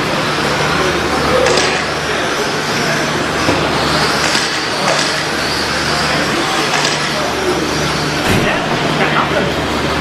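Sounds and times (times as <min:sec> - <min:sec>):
rc truck motors whining: 0:00.0 - 0:08.2
steady low hum: 0:00.0 - 0:10.0.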